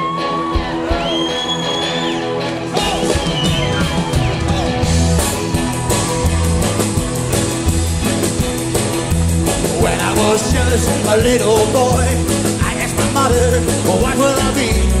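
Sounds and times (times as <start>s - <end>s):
electric guitar lead: 0.0s - 15.0s
rock and roll band playing: 0.0s - 15.0s.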